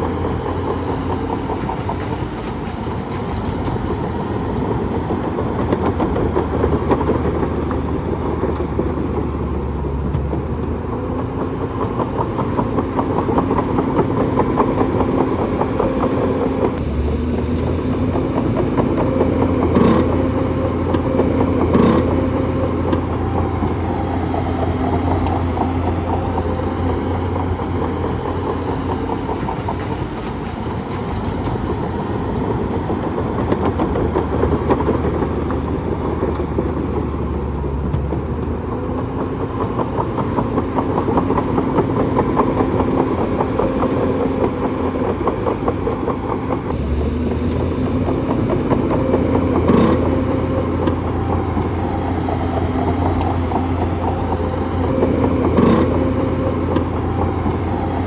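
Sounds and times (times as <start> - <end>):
heavy machine engine running: 0.0 - 58.0.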